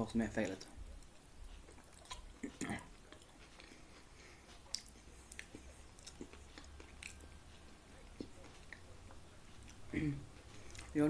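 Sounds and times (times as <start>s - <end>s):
faint chewing: 0.3s - 11.0s.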